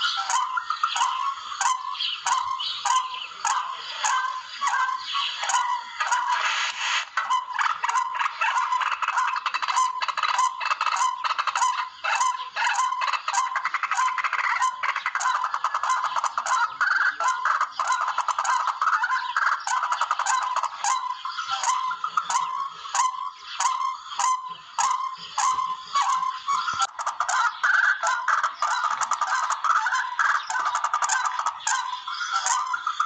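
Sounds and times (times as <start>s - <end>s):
rail bird calling: 0.0s - 33.0s.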